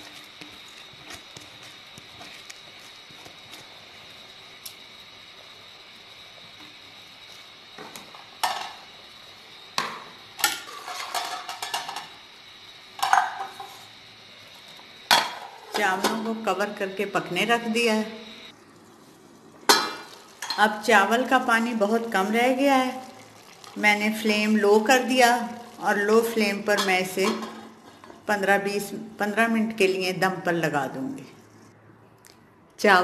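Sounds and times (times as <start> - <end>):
low hiss of boiling water: 0.0 - 33.0.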